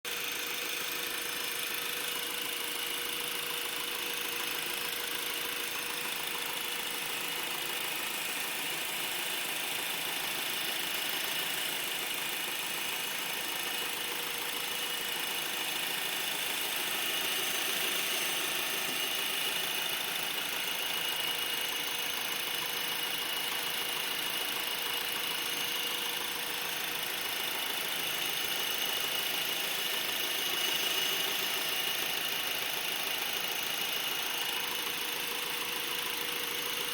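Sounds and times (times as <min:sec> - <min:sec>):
car engine running: 0:00.1 - 0:36.9.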